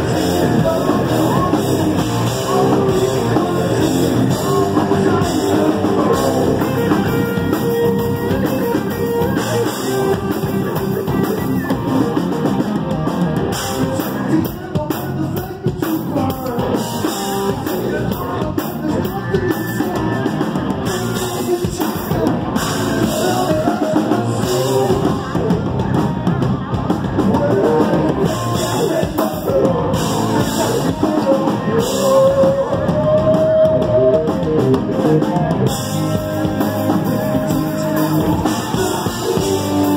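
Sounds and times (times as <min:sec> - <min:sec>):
person singing into microphone: 0:00.0 - 0:11.8, 0:13.8 - 0:35.8, 0:36.4 - 0:39.9
live rock band playing: 0:00.0 - 0:39.9.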